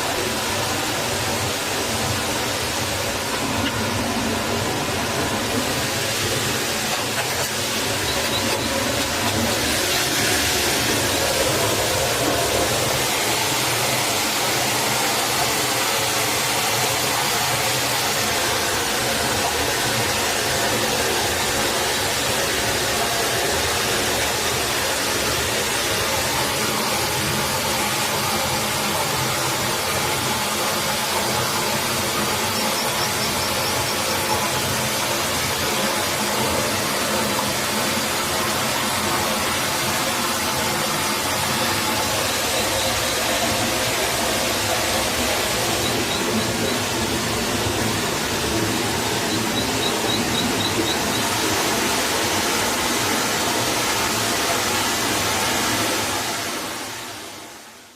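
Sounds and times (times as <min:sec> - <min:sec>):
forest stream rushing: 0:00.0 - 0:57.9.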